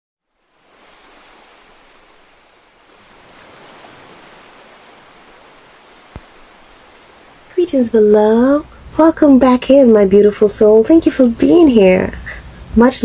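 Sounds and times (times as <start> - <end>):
ocean surf rushing: 0.3 - 10.9.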